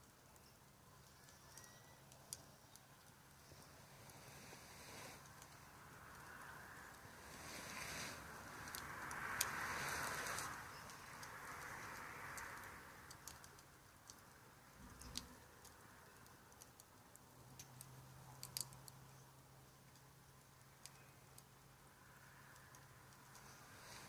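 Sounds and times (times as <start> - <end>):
campfire crackling and popping: 0.0 - 24.0
soft rushing hiss: 0.0 - 24.0.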